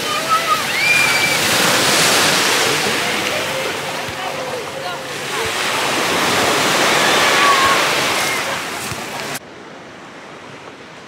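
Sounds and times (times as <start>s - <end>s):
sea waves washing on shore: 0.0s - 11.0s.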